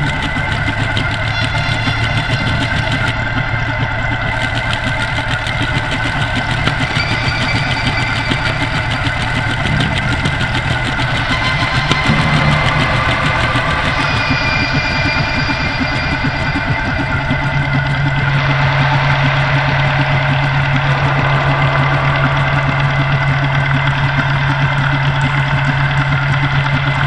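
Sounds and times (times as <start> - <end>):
drone of held tones: 0.0 - 27.0
fast pulsing throttle: 0.0 - 27.0.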